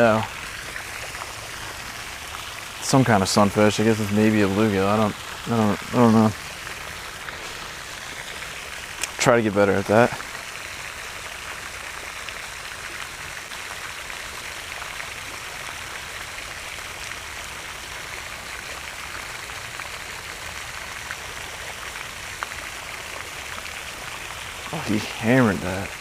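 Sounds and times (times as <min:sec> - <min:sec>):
fountain spray splashing on water: 0:00.0 - 0:26.0.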